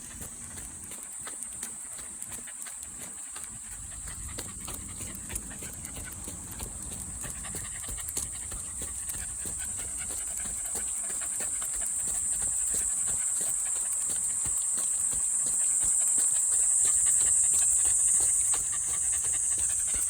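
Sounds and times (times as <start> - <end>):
cicadas buzzing: 0.0 - 20.0
dog panting: 0.0 - 20.0.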